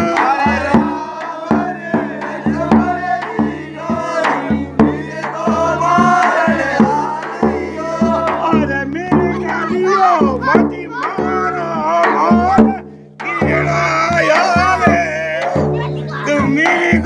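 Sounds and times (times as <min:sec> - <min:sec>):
man singing: 0:00.0 - 0:17.0
steady held accompaniment: 0:00.0 - 0:17.0.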